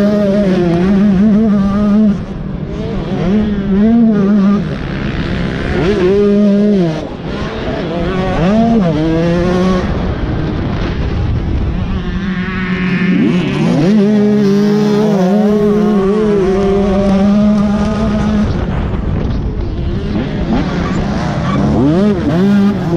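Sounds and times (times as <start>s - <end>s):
dirt bike engine revving: 0.0s - 22.9s
wind and track noise: 0.0s - 22.9s.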